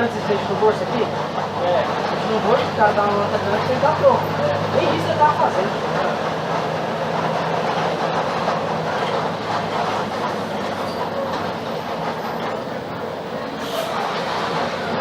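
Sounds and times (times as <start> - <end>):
bus body rattle: 0.0 - 15.0
bus diesel engine hum: 0.0 - 15.0
road noise: 0.0 - 15.0.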